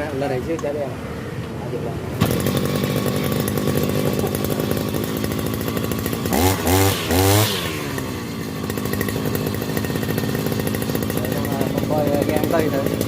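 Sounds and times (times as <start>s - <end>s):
brush cutter engine idling and revving: 1.4s - 13.0s.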